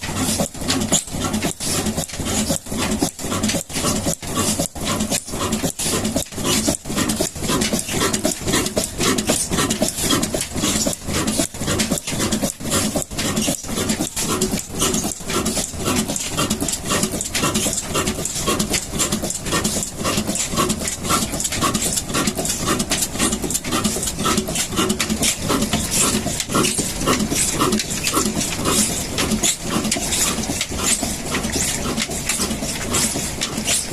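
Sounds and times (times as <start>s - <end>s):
diesel engine knocking: 0.0s - 33.9s.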